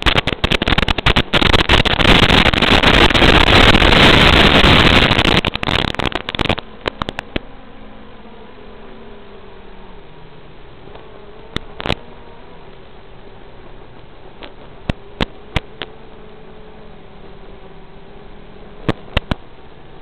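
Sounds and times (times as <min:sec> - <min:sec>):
video static hiss and crackle: 0:00.0 - 0:20.0.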